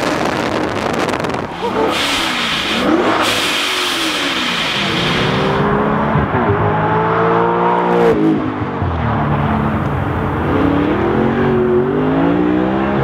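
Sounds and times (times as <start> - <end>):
sports car accelerating hard: 0.1 - 13.0.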